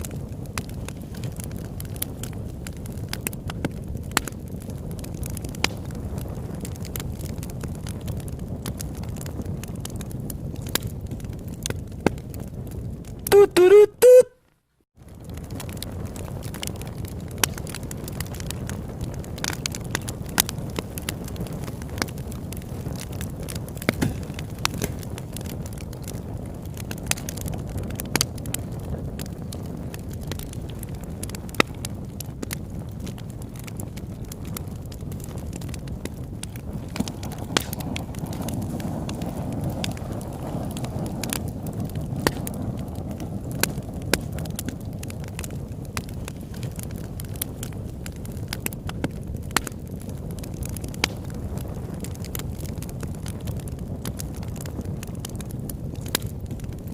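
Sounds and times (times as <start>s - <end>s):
flames rushing: 0.0s - 13.3s, 14.9s - 56.9s
burning wood popping: 0.0s - 56.9s.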